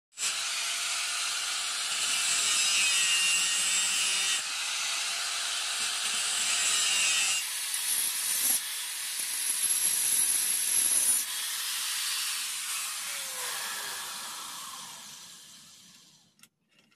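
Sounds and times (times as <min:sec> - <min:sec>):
file rasping steel blade: 0:00.2 - 0:15.2.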